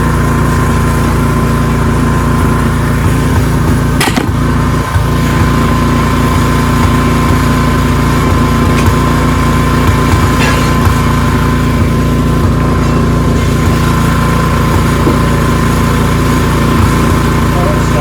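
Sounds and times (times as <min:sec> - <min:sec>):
high whine: 0:00.0 - 0:18.0
snowblower engine running: 0:00.0 - 0:18.0.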